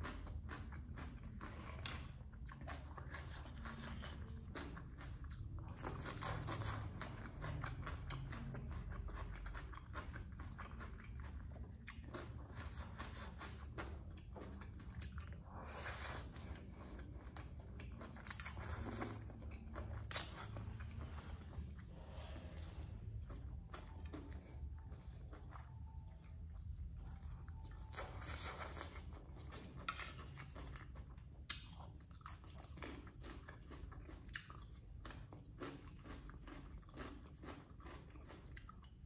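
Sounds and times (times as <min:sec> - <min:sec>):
wet chewing and crunching: 0:00.0 - 0:39.0.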